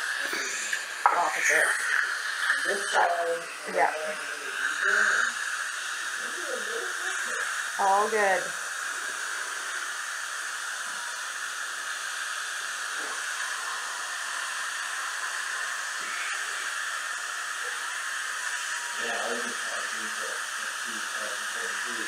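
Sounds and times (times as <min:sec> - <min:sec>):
dental suction hissing: 0:00.0 - 0:22.0.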